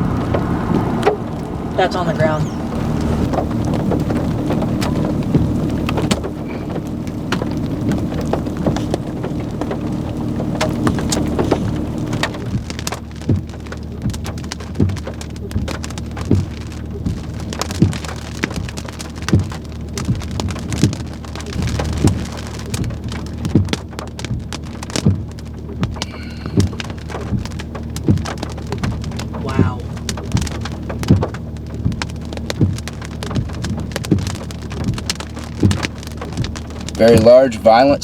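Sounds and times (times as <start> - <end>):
heavy rain falling: 0.0 - 38.0
steady low hum: 0.0 - 38.0.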